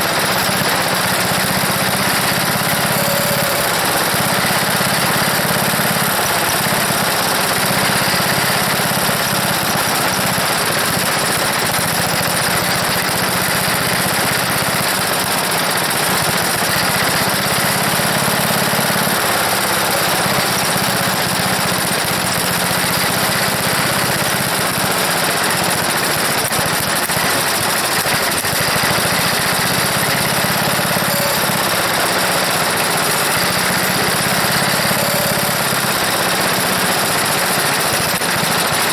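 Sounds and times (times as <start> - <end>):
wood chipper engine running loudly: 0.0 - 38.9.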